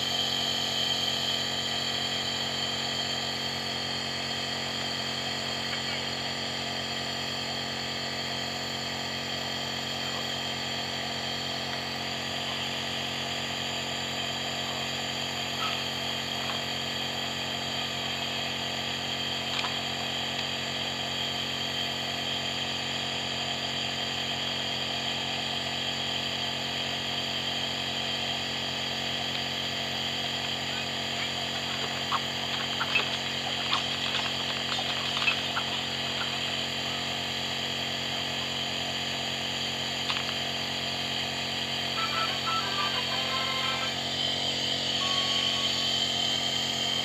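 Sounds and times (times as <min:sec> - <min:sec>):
nebulizer motor hum: 0:00.0 - 0:47.0.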